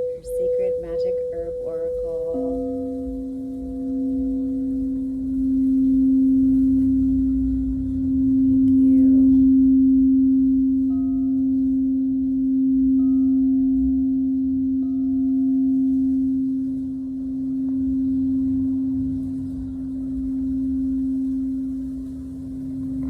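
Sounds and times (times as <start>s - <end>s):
crystal singing bowl tone: 0.0s - 23.0s
faint higher ring: 0.0s - 23.0s.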